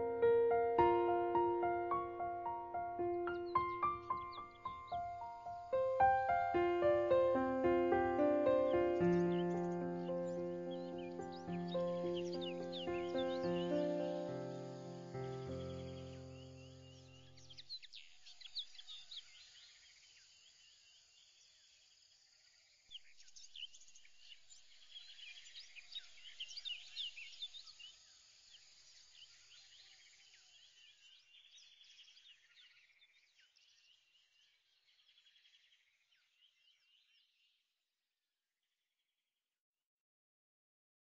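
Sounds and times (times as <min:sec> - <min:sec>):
small birds chirping: 0:00.0 - 0:37.6.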